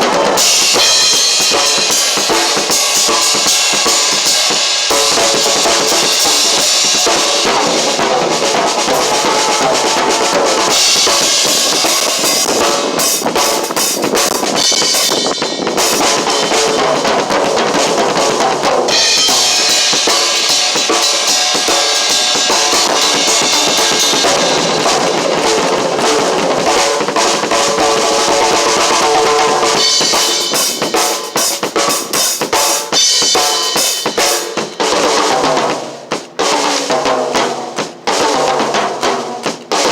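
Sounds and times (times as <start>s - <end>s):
cymbals washing: 0.0s - 37.0s
drum kit playing: 0.0s - 39.9s.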